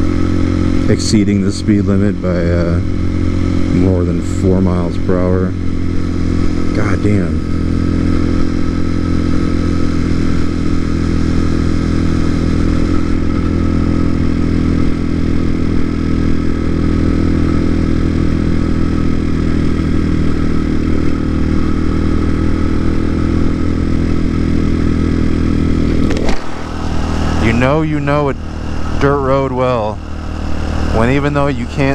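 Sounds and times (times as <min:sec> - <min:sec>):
dirt bike engine running: 0:00.0 - 0:31.9.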